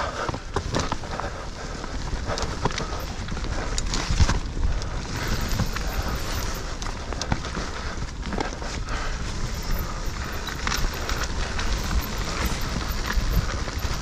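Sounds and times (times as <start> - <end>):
bike knocking and rattling: 0.0 - 14.0
bike tyres rumbling on dirt: 0.0 - 14.0.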